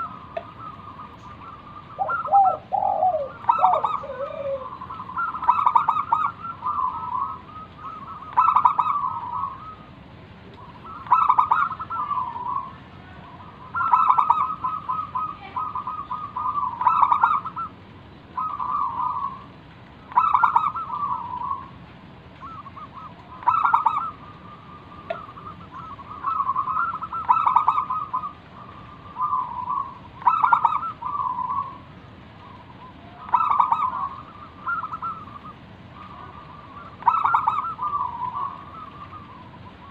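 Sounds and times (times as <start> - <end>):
dove cooing: 0.0 - 9.9, 10.5 - 21.7, 22.4 - 39.9.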